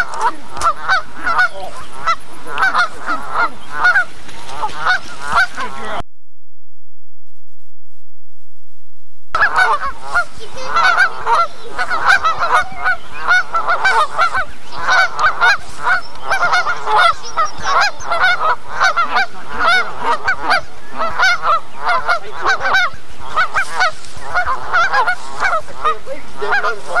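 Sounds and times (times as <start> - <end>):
geese honking: 0.0 - 6.0, 9.4 - 27.0.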